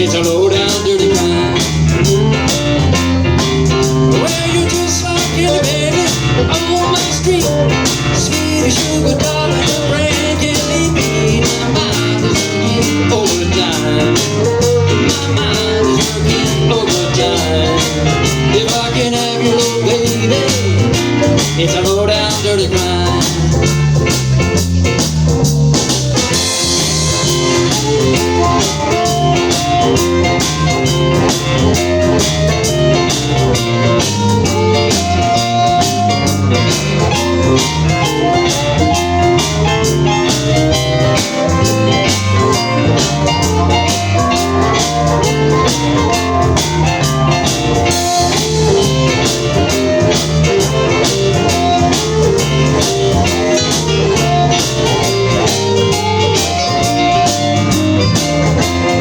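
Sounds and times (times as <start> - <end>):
drum kit beat: 0.0 - 59.0
electric guitar: 0.0 - 59.0.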